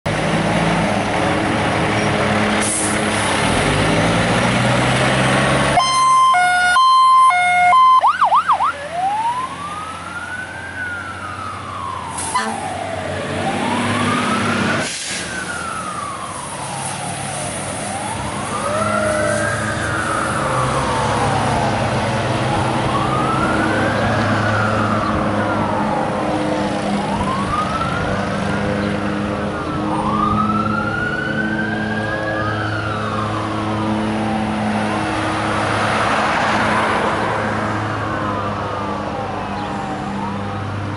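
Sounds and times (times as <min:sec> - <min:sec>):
sirens wailing: 0:00.2 - 0:40.9.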